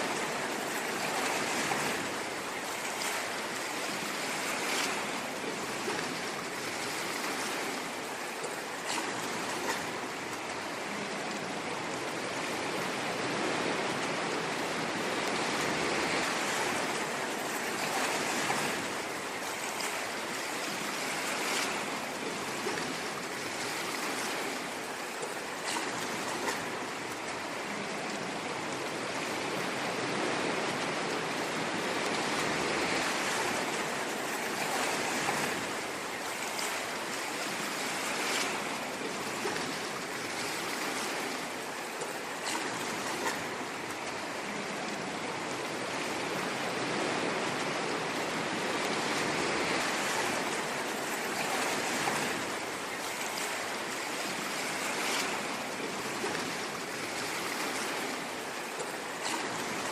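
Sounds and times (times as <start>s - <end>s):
ocean waves washing onto shore: 0.0s - 59.9s
waves splashing: 0.0s - 59.9s.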